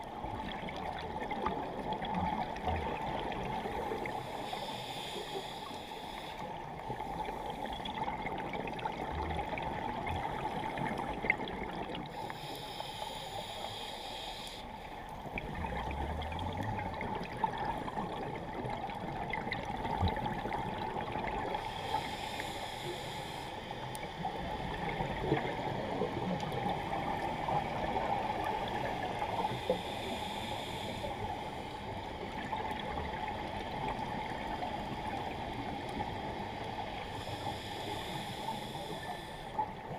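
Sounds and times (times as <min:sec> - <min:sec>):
underwater hiss: 0:02.9 - 0:08.8, 0:09.5 - 0:18.7, 0:20.1 - 0:39.9.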